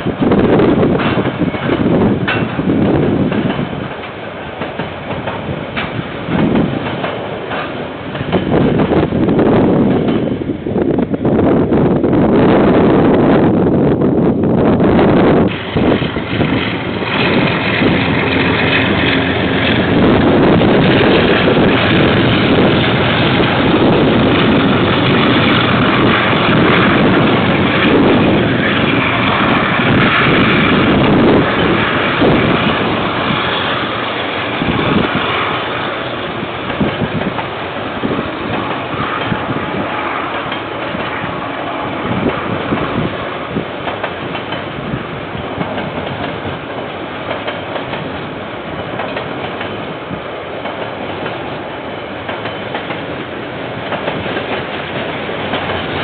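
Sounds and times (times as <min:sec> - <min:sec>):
train wheels clacking over rail joints: 0:00.0 - 0:10.5, 0:15.4 - 0:56.0
diesel freight train passing: 0:00.0 - 0:56.0.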